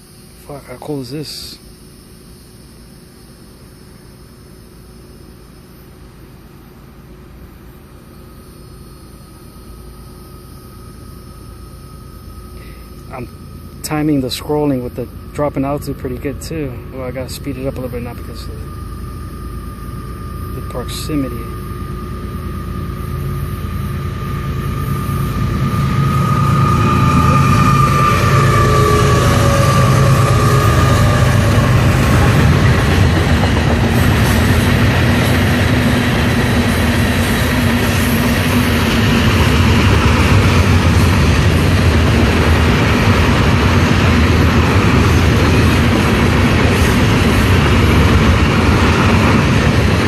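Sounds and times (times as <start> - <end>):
thin high whine: 0.0 - 50.0
train rumbling past: 6.2 - 50.0.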